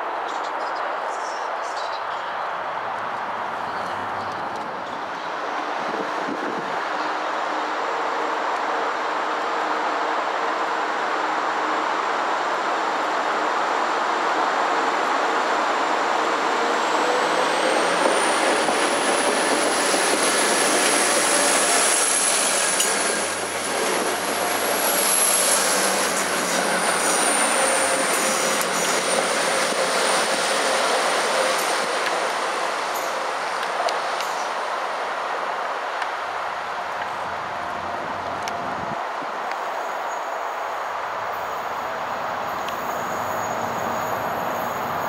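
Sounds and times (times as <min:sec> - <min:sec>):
train running: 0:02.5 - 0:45.0.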